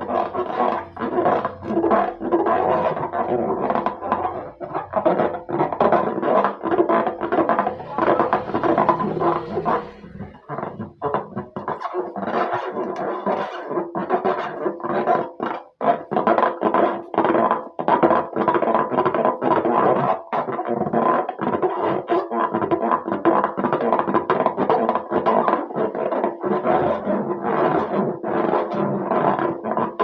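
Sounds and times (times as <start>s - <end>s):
music with choppy notes: 0.0s - 30.0s.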